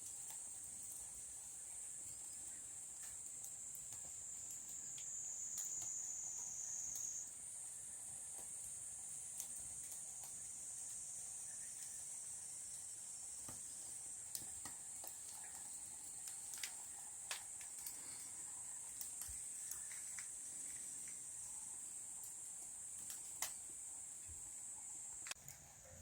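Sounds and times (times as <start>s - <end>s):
insects trilling: 0.0s - 25.4s
campfire crackling: 0.0s - 25.7s.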